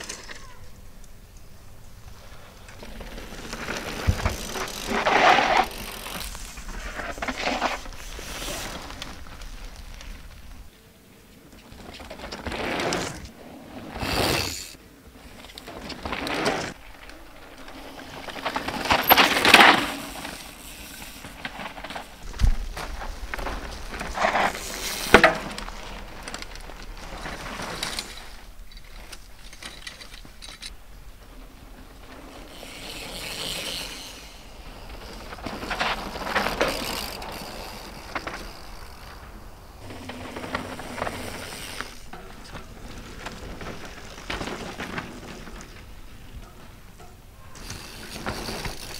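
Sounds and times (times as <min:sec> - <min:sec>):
bike mechanical rattle: 0:00.0 - 0:10.7, 0:11.6 - 0:48.9
bike tyres rushing over dirt: 0:00.0 - 0:48.9.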